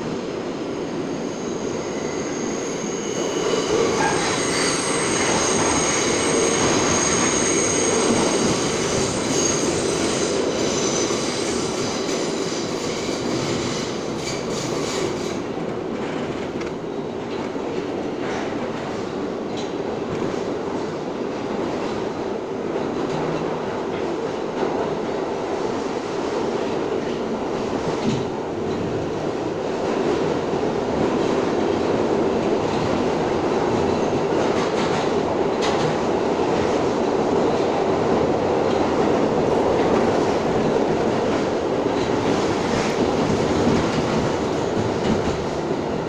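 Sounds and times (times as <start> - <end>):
subway wheels rumbling on rail: 0.0 - 46.0.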